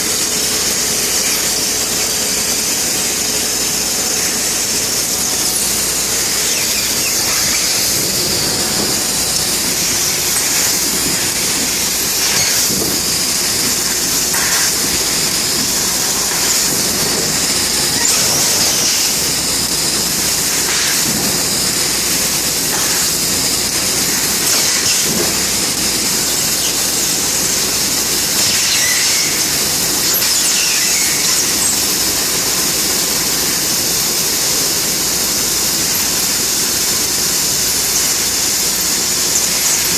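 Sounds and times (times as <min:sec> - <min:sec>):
laser cutting machine hissing: 0:00.0 - 0:39.9.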